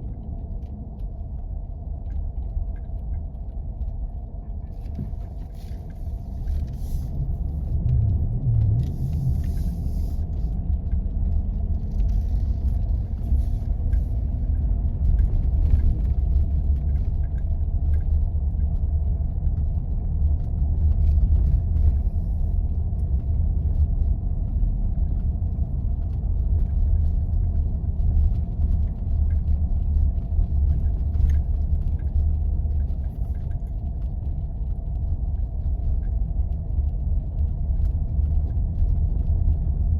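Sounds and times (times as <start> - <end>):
engine and tyres rumble: 0.0 - 39.9
faint crunches and ticks: 0.0 - 39.9.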